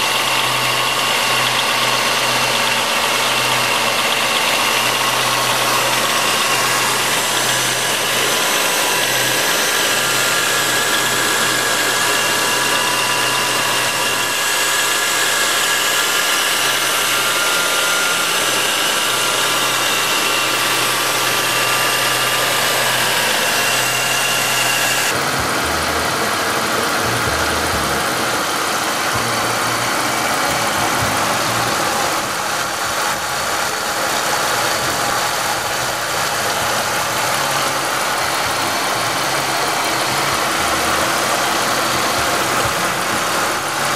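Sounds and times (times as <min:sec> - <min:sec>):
car engine idling with knock: 0:00.0 - 0:43.9
high whine: 0:00.0 - 0:43.9.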